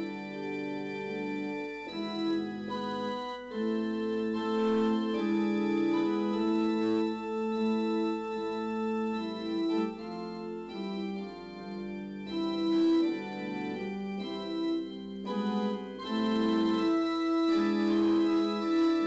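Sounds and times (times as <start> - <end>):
slow organ-like keyboard chords: 0.0 - 19.0.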